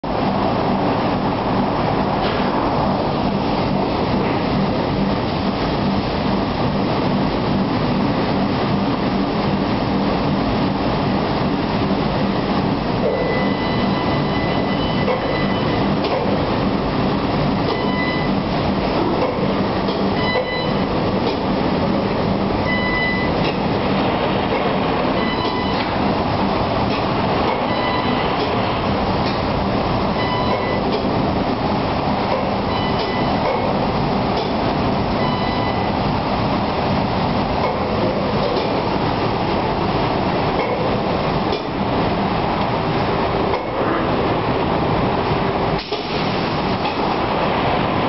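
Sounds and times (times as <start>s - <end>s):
conveyor machinery din: 0.0s - 48.0s.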